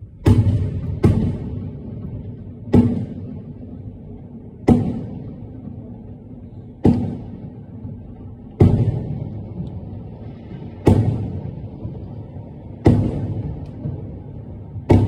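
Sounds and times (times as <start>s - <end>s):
firework shells booming: 0.0s - 15.0s.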